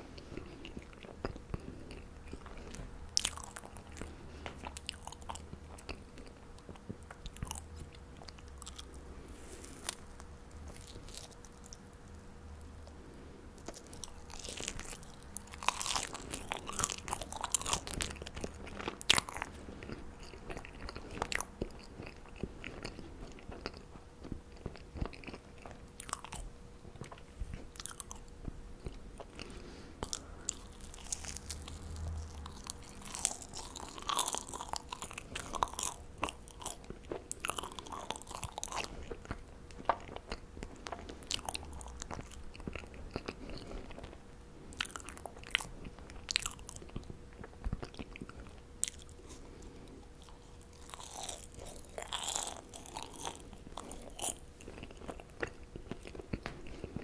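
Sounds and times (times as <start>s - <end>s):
faint steady hum: 0.0s - 57.0s
biting and chewing: 0.1s - 9.0s, 13.6s - 57.0s.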